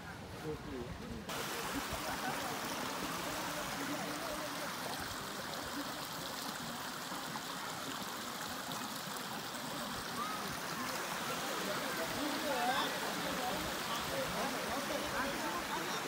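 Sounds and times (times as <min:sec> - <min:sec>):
stream rushing water: 0:01.3 - 0:16.0.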